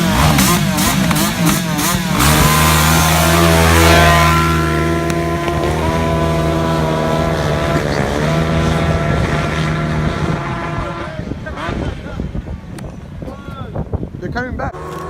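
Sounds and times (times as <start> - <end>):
small off-road engine revving: 0.0 - 12.4, 14.7 - 15.0.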